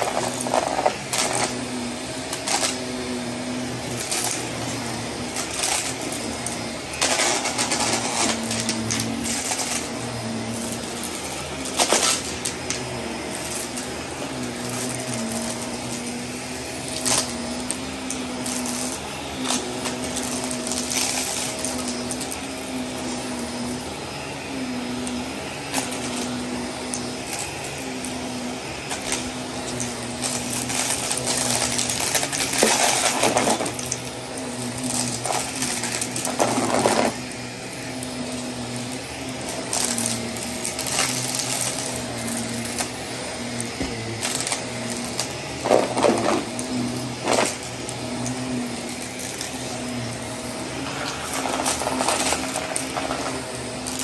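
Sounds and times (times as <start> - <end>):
grit rattling in vacuum: 0.0 - 54.0
vacuum cleaner on carpet: 0.0 - 54.0.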